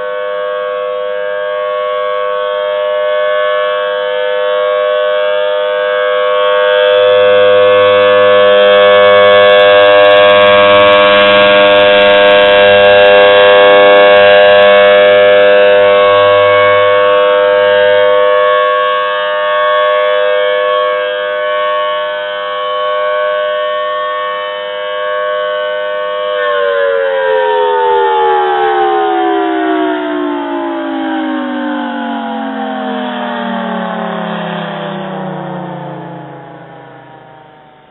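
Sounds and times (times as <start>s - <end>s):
outdoor warning siren: 0.0s - 37.9s.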